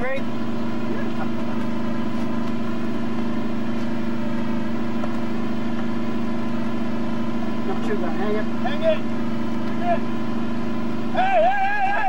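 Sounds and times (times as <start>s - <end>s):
engine idling drone: 0.0s - 12.0s.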